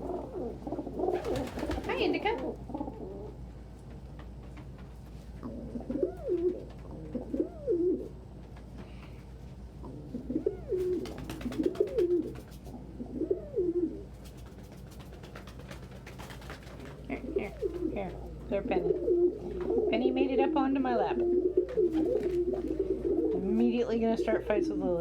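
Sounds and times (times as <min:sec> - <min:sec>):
pigeons cooing: 0:00.0 - 0:04.4, 0:05.3 - 0:25.0.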